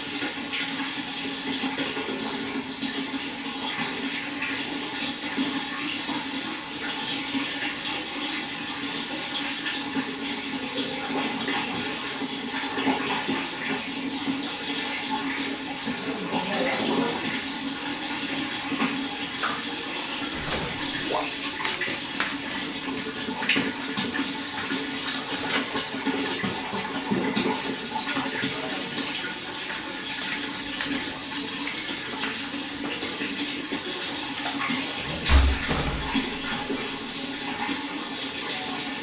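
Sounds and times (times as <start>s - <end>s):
running water splashing: 0.0s - 39.0s.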